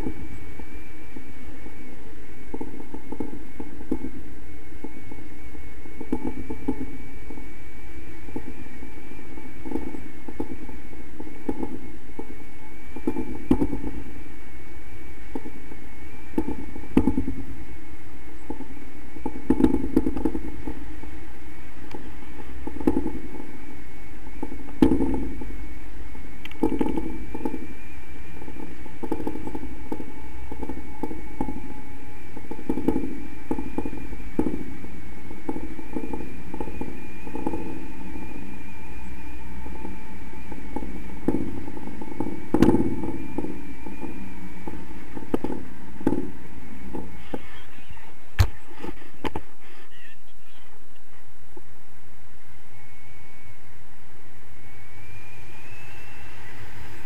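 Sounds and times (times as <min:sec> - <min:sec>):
faint high whine: 0:00.0 - 0:57.0.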